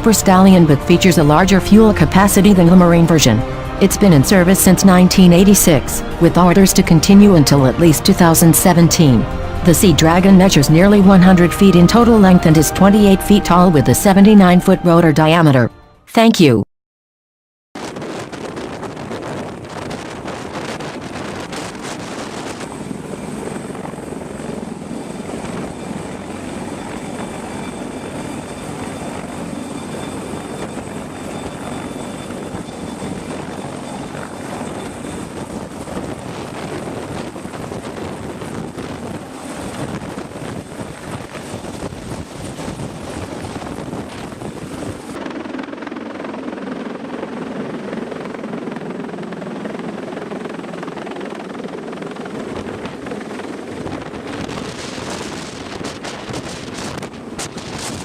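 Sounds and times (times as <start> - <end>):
helicopter rotor and turbine: 0.0 - 13.9, 17.8 - 58.0.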